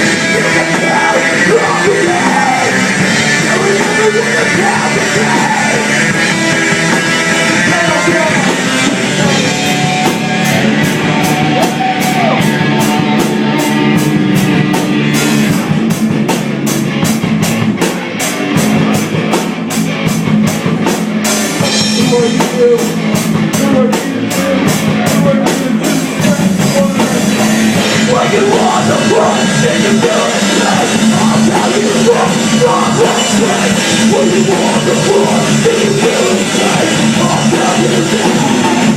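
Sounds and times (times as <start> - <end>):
fast drum beat: 0.0 - 38.9
live rock band playing: 0.0 - 38.9.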